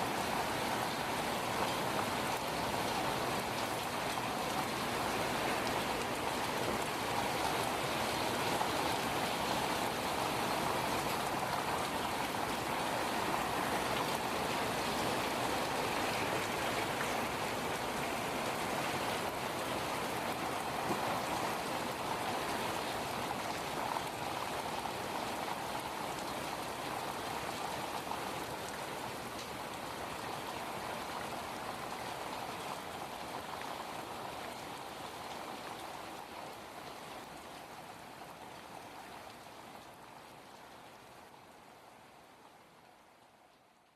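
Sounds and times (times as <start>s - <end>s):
steady rain patter: 0.0s - 43.9s.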